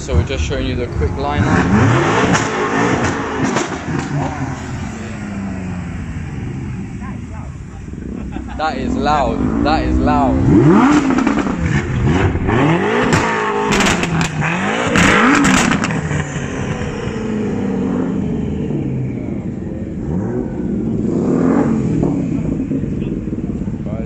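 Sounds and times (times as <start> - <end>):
car engine revving: 0.0 - 24.0
sharp exhaust cracks: 0.0 - 24.0.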